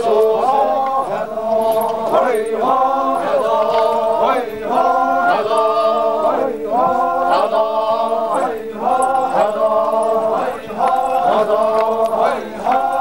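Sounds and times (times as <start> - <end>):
group chanting: 0.0 - 13.0.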